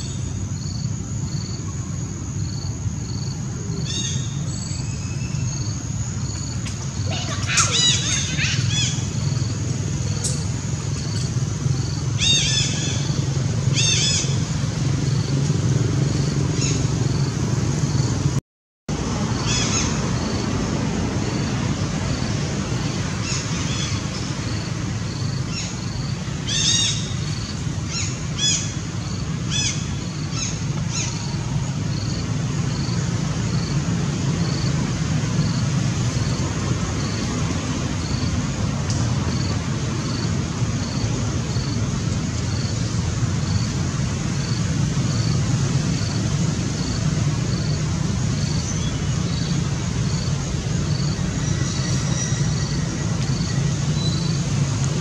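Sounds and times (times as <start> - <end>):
distant road traffic rumble: 0.0 - 55.0.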